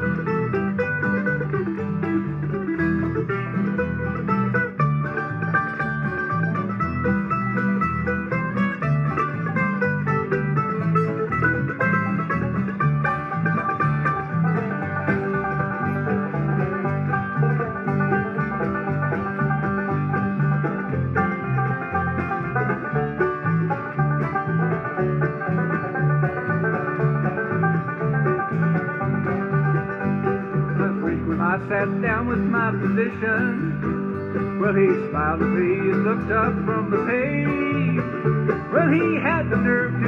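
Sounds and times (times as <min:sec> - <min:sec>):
banjo picking: 0:00.0 - 0:40.0
guitar: 0:00.0 - 0:40.0
low bass notes: 0:00.0 - 0:40.0.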